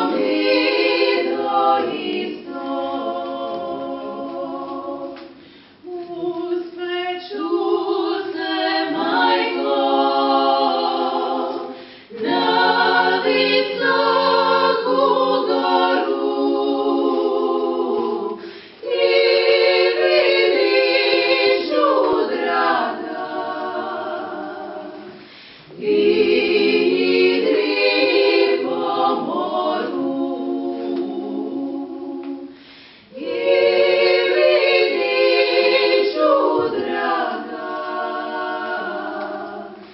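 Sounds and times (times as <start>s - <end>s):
women singing in close harmony: 0.0s - 39.9s.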